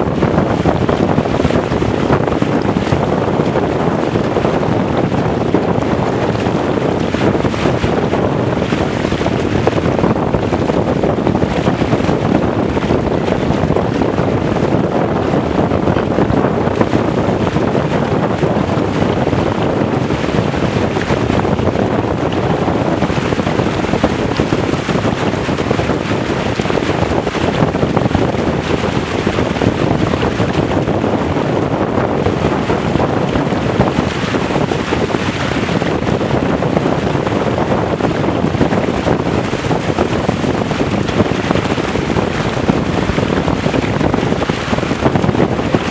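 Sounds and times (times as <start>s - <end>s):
water splashing along hull: 0.0s - 45.9s
wind noise on microphone: 0.0s - 45.9s.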